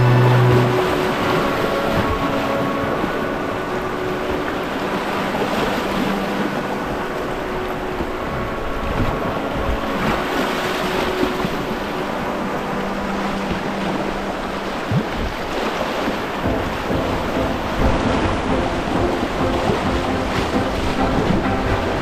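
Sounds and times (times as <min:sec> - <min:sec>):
water rushing: 0:00.0 - 0:22.0
wind noise on microphone: 0:00.0 - 0:22.0.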